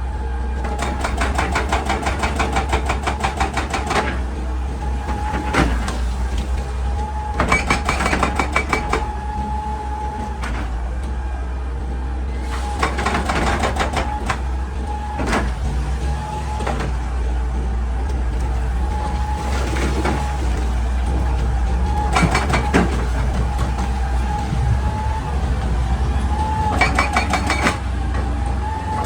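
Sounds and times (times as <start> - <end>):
excavator engine rumbling: 0.0 - 29.0.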